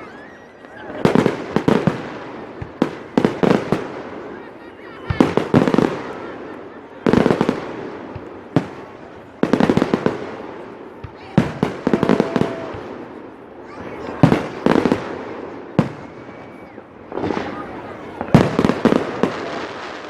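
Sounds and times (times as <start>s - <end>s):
fireworks bangs and crackles: 0.1s - 20.0s.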